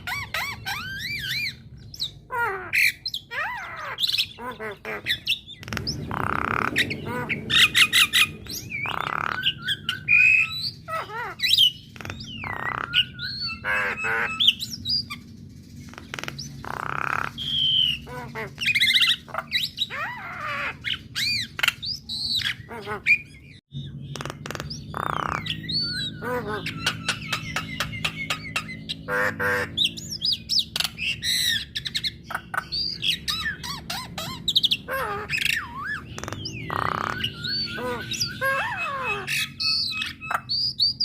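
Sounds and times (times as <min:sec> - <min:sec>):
myna bird singing: 0:00.0 - 0:41.0.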